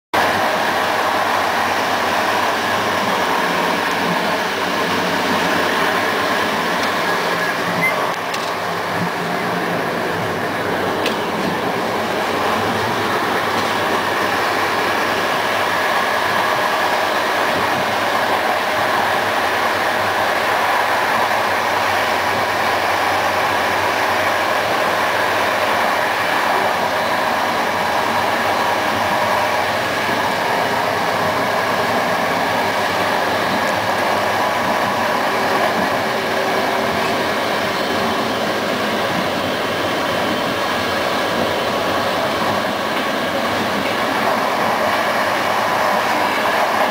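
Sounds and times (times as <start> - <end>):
train wheels rumbling on rails: 0.1 - 46.9.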